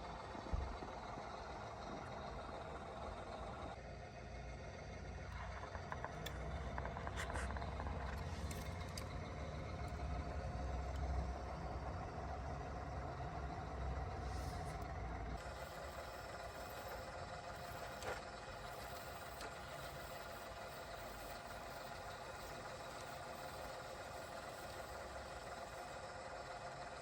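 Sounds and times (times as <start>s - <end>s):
model vehicle motor whine: 4.4s - 27.0s.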